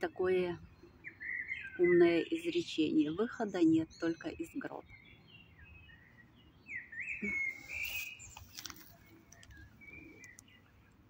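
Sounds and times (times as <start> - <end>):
faint outdoor background: 0.0 - 11.0
songbirds singing: 0.0 - 11.0.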